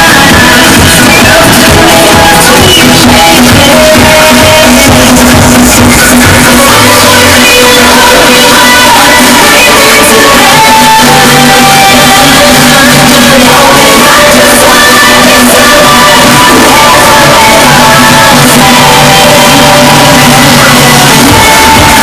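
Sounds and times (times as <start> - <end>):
loud music with singing: 0.0 - 22.0.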